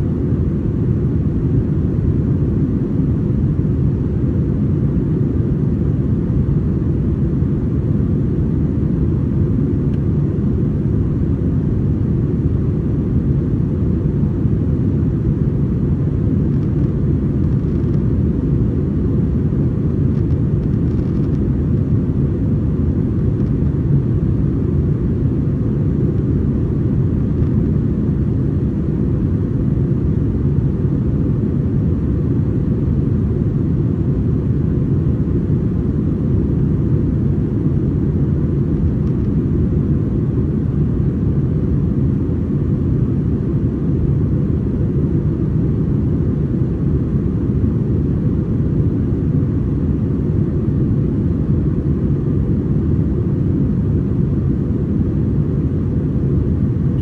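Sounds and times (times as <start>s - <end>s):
jet engines rumbling: 0.1s - 57.0s.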